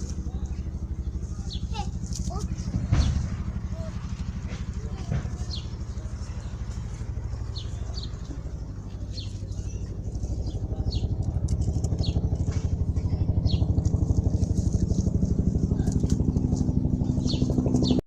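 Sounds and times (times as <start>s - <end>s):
birds chirping: 0.0s - 18.0s
small engine pulsing: 0.0s - 18.0s.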